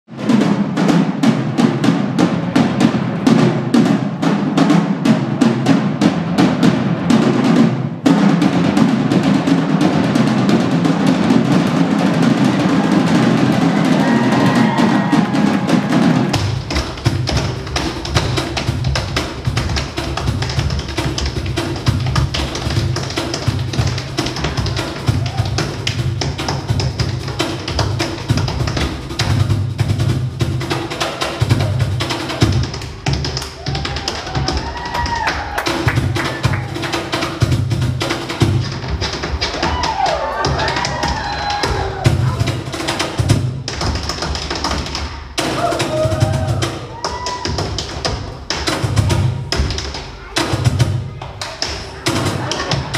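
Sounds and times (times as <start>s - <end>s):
tom drums played with sticks: 0.1s - 52.9s.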